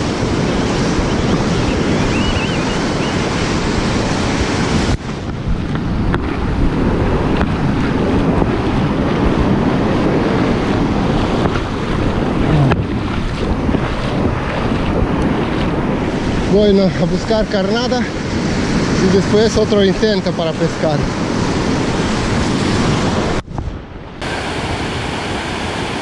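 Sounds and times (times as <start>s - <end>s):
wind buffeting microphone: 0.0s - 25.1s
surf washing onto beach: 0.0s - 26.0s.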